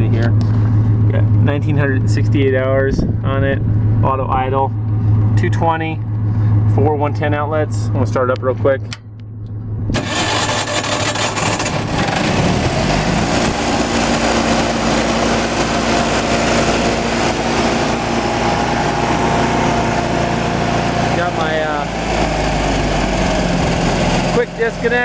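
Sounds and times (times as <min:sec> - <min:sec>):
generator engine starting and running: 0:00.0 - 0:25.0.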